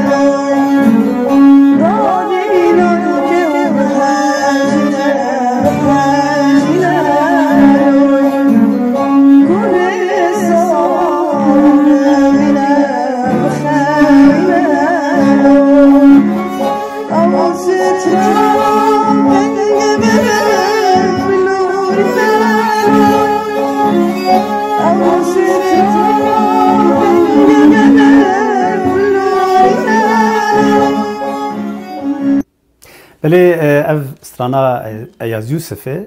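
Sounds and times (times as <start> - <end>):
boy singing: 0.0 - 16.3, 17.1 - 24.0, 24.7 - 31.6
oud: 0.0 - 32.4
violins: 0.0 - 32.5.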